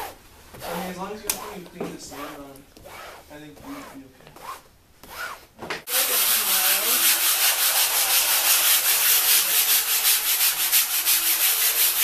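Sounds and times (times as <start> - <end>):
sandpaper rubbing on board: 0.6 - 12.0.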